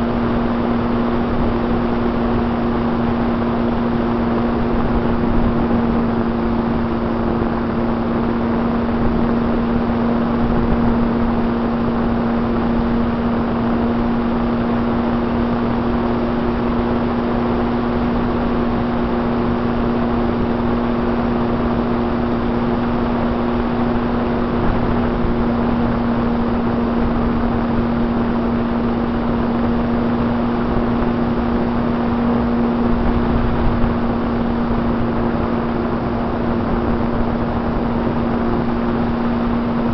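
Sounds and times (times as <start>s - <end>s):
model plane motor hum: 0.0s - 39.9s.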